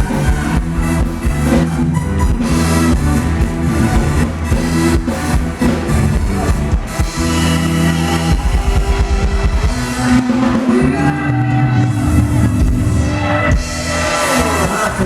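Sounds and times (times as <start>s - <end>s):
band music: 0.0s - 15.0s
steady drum beat: 0.0s - 15.0s.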